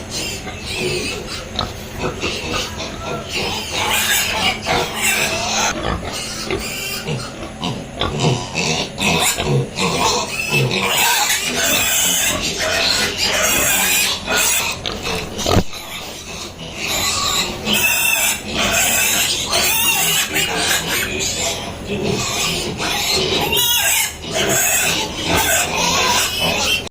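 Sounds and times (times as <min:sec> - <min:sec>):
piglets grunting: 0:00.0 - 0:26.9.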